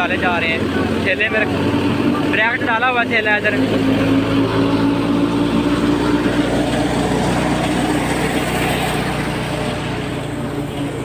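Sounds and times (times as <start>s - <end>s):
threshing machine rushing: 0.0s - 11.0s
tractor engine hum: 0.0s - 11.0s.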